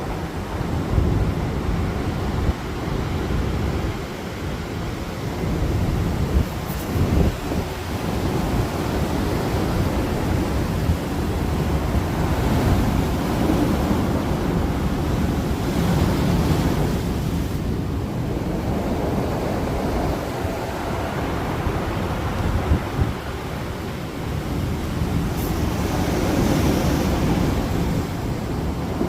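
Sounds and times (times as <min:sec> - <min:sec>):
wind buffeting microphone: 0:00.0 - 0:29.0
surf breaking on beach: 0:05.3 - 0:29.0.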